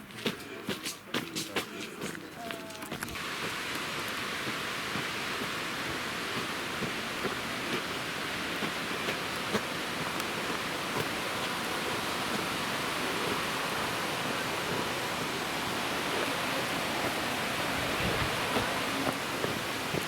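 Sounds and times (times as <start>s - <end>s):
falling water rushing: 0.0s - 20.0s.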